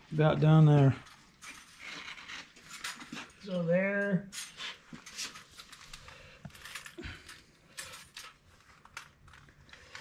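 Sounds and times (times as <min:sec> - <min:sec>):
small handling clicks and rustles: 0:00.2 - 0:10.0.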